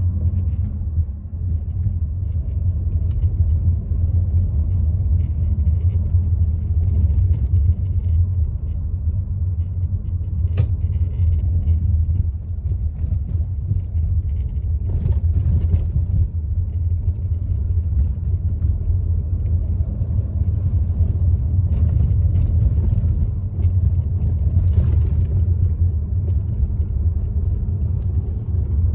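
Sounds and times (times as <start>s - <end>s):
car road and engine rumble: 0.0s - 28.9s.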